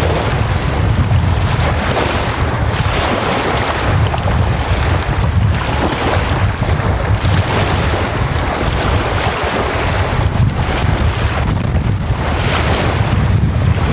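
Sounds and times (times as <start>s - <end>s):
waves breaking on sandy shore: 0.0s - 13.9s
wind rumbling on microphone: 0.0s - 13.9s.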